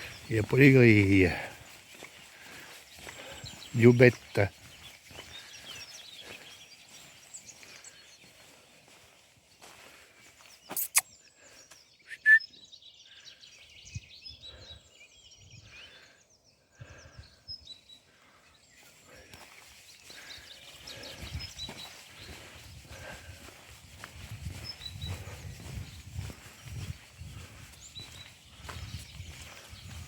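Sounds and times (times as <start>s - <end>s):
outdoor ambience: 0.0s - 13.6s, 15.9s - 30.0s
small birds chirping: 0.0s - 30.0s.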